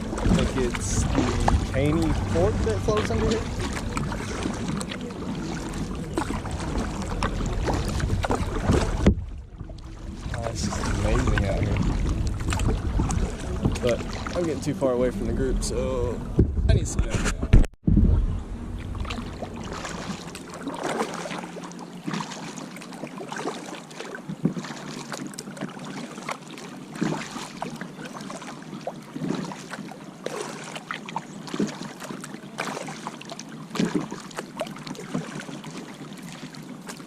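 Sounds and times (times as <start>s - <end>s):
paddle strokes splashing water: 0.0s - 37.0s.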